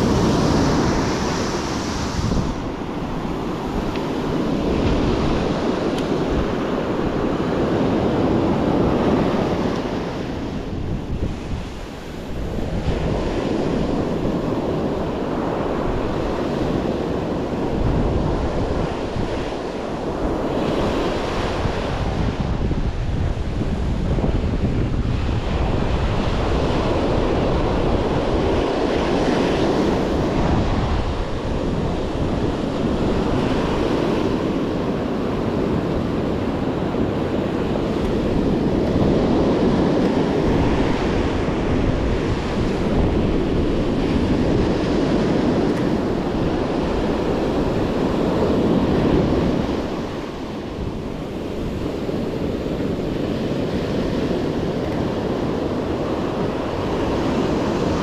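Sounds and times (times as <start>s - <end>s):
ocean surf breaking: 0.0s - 58.0s
wind buffeting microphone: 0.0s - 58.0s.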